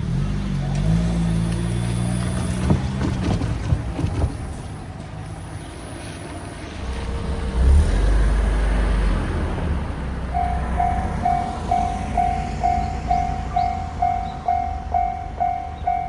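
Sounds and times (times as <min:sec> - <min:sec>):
approaching train rumble: 0:01.8 - 0:16.0.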